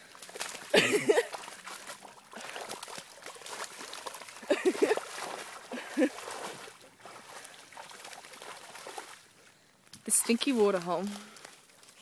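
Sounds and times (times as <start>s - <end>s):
dog wading through muddy water: 0.0s - 12.0s
water sloshing and splashing: 0.0s - 12.0s
water trickling: 0.0s - 12.0s.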